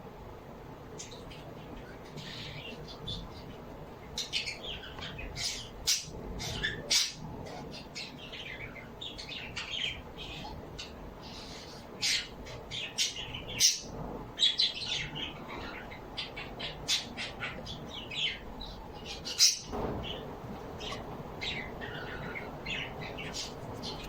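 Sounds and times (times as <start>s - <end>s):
small birds chirping and squawking: 0.8s - 24.0s.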